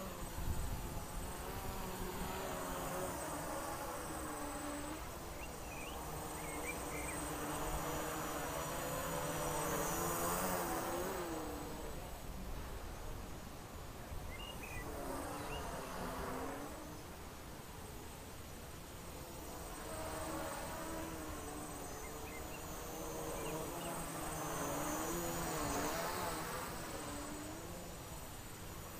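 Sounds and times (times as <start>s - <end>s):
quadcopter propellers buzzing: 0.0s - 28.9s.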